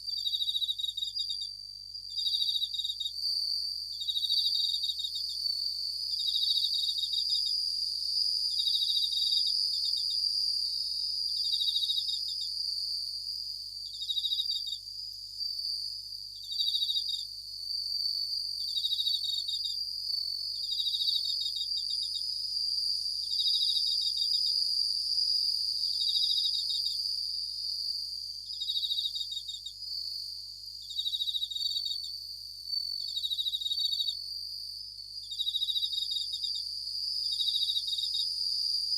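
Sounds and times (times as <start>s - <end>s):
crickets ringing chirp: 0.0s - 38.9s
high-pitched insect trill: 0.0s - 38.9s.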